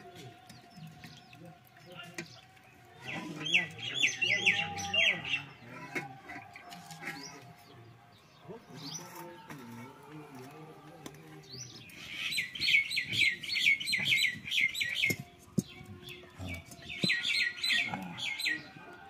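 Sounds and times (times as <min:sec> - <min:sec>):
bird chirping: 0:00.0 - 0:18.8.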